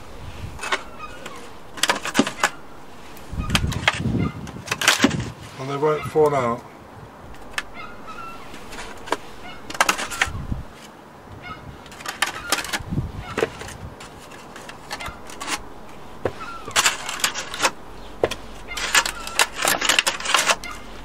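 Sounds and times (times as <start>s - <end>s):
short squeaks: 0.6s - 5.4s, 7.3s - 21.0s.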